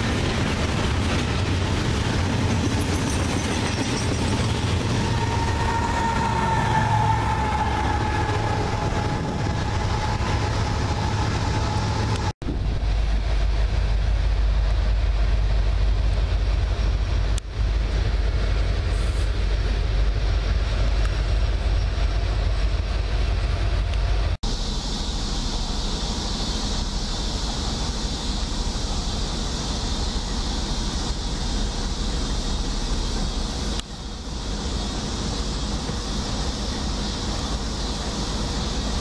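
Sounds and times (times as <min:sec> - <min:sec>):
low rumble of rolling freight cars: 0:00.0 - 0:39.0
train cars rolling past: 0:00.0 - 0:39.0.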